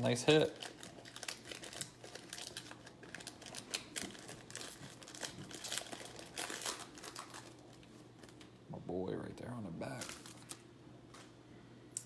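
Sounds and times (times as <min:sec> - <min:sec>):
cards and foil wrappers rustling: 0:00.0 - 0:08.5, 0:09.8 - 0:11.4.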